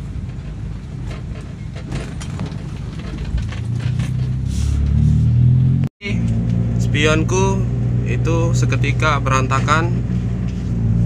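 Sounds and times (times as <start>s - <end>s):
car engine and exhaust droning: 0.0s - 11.0s.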